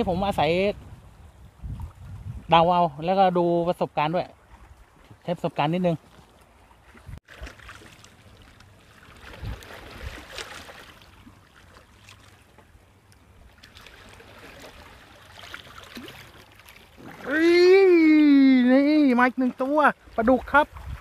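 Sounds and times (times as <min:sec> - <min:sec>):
seawater lapping against rocks: 0:01.0 - 0:21.0.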